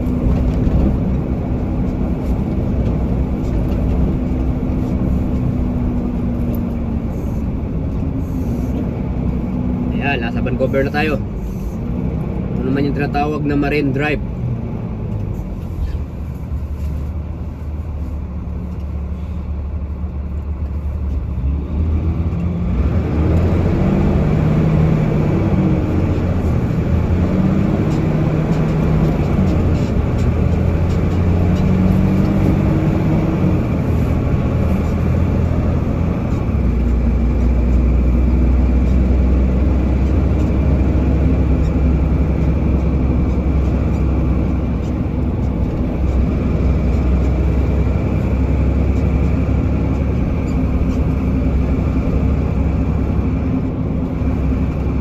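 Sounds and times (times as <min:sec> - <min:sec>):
car engine: 0:00.0 - 0:55.0
road noise: 0:00.0 - 0:55.0.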